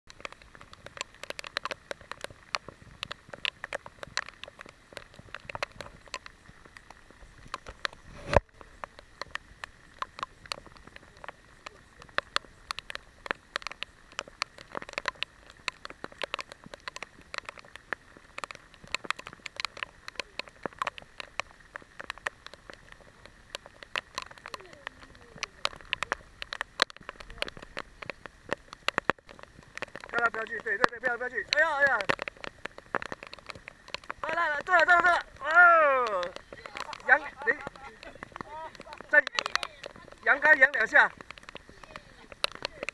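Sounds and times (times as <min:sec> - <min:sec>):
rain pattering on a boat: 0:00.0 - 0:42.9
faint hiss: 0:00.2 - 0:42.9.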